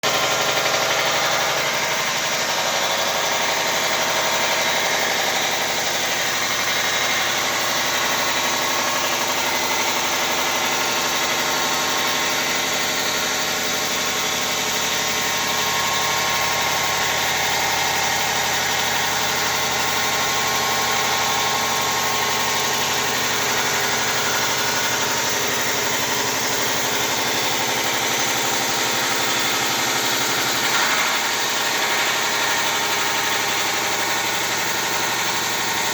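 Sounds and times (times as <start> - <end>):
cnc machine running: 0.0 - 35.9.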